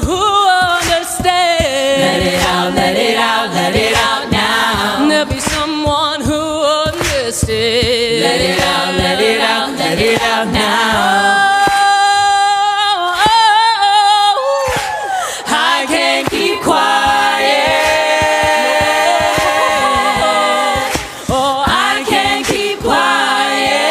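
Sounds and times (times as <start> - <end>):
a cappella choir singing: 0.0 - 23.9.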